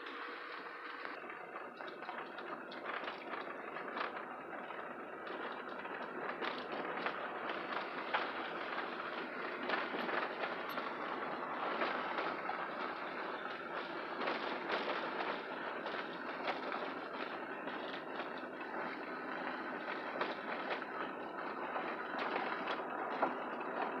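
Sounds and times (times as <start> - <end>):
tyres rumbling on gravel: 2.8 - 24.0.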